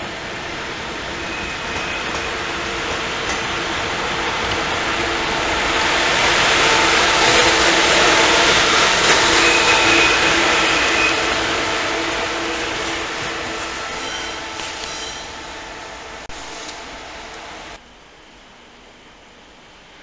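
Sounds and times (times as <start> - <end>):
electric train passing slowly: 0.0 - 20.0.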